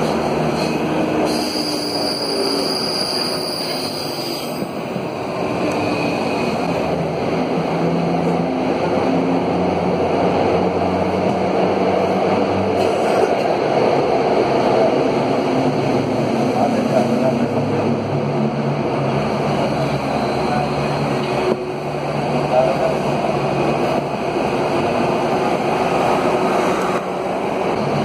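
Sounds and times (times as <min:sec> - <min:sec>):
metro wheels rumbling on rail: 0:00.0 - 0:28.0
train drive hum: 0:00.0 - 0:28.0.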